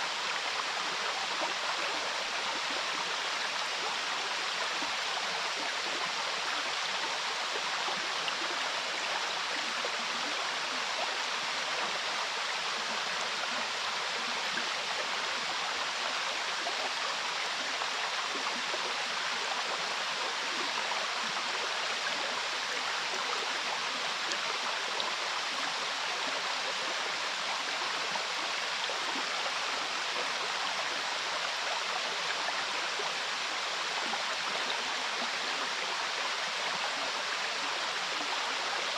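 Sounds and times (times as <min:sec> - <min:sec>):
waterfall: 0:00.0 - 0:38.9.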